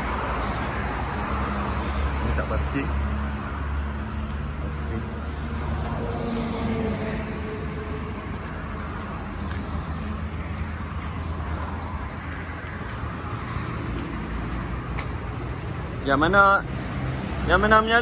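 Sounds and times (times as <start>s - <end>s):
passing vehicle engine: 0.0s - 18.0s
road traffic rumble: 0.0s - 18.0s.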